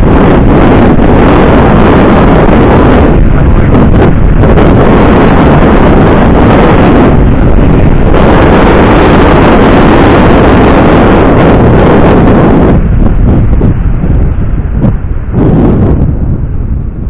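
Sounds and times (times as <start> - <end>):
wind buffeting on microphone: 0.0 - 17.0.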